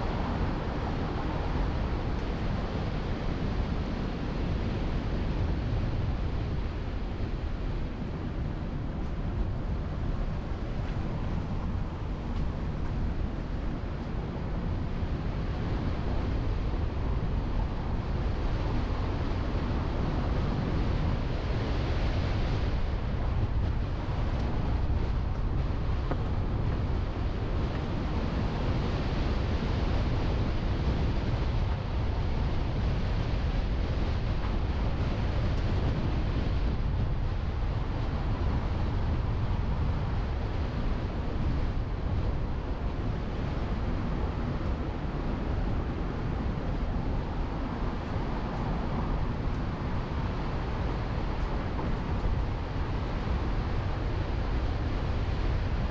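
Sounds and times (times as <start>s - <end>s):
road noise: 0.0s - 55.9s
wind rushing over microphone: 0.0s - 55.9s.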